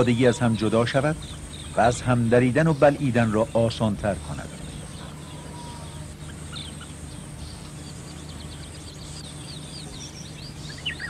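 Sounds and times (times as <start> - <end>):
birds chirping: 0.0 - 11.0
steady background hiss: 0.0 - 11.0.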